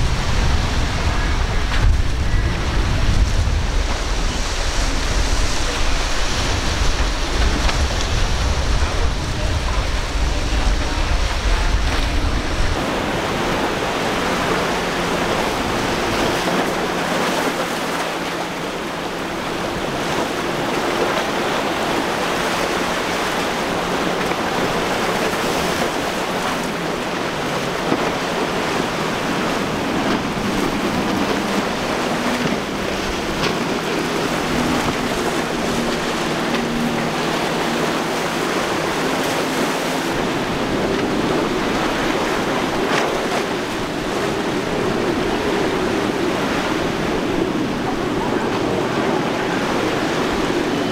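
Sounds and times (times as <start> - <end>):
outboard boat engines droning: 0.0 - 50.9
surf and choppy water: 0.0 - 50.9
wind on microphone: 0.0 - 50.9.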